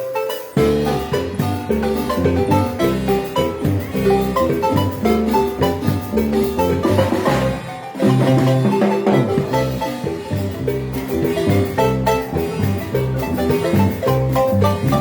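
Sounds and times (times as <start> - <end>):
marimba ensemble playing: 0.0 - 15.0
percussion accent: 0.0 - 15.0.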